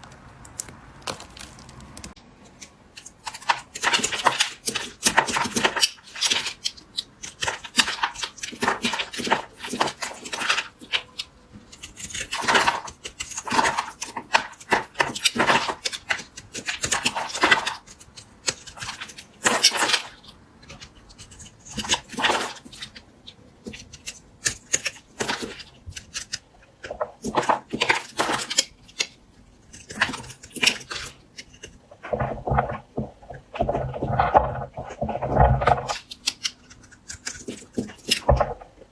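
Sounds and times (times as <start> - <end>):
blade cutting through soap: 2.5 - 32.1, 35.8 - 38.4.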